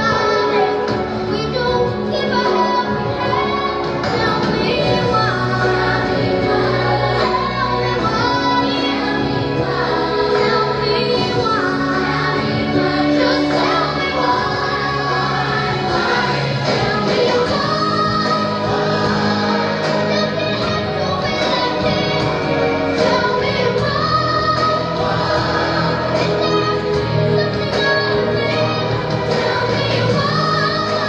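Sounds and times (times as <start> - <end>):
musical accompaniment low notes: 0.0 - 31.0
several voices singing: 0.0 - 31.0.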